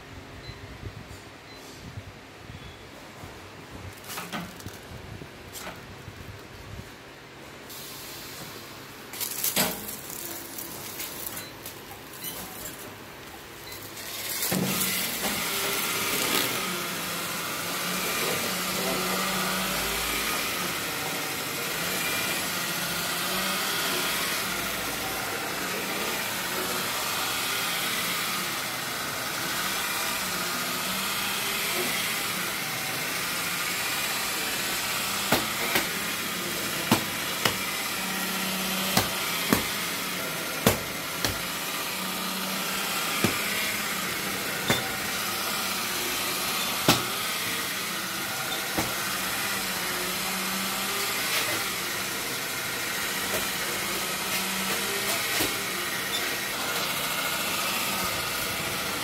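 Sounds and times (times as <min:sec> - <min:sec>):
plastic film winding hiss: 0:03.9 - 0:04.9, 0:07.7 - 0:59.0
machine motor hum: 0:09.3 - 0:59.0.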